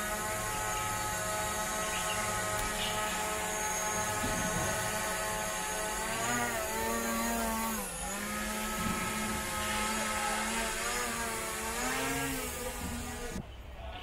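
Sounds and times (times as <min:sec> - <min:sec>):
drone propellers whining: 0:00.0 - 0:13.4.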